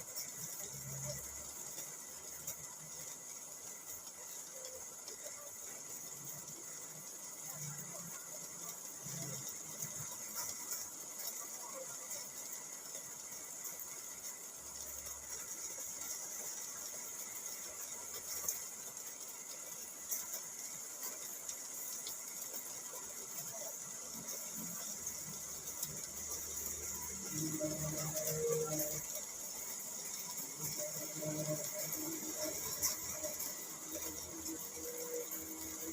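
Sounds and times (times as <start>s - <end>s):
rain hissing on a car: 0.0s - 35.9s
raindrops ticking on car body: 0.0s - 35.9s.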